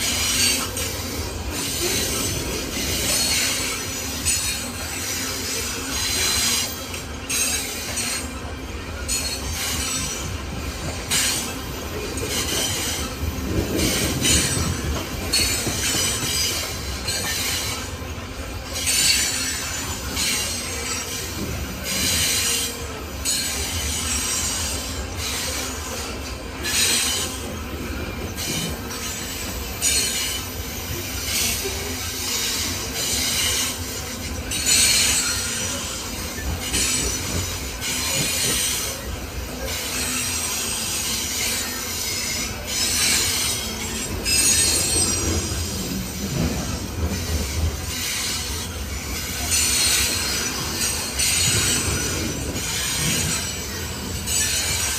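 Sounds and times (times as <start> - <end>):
steel wheels squealing: 0.0 - 54.9
train rolling rumble: 0.0 - 54.9.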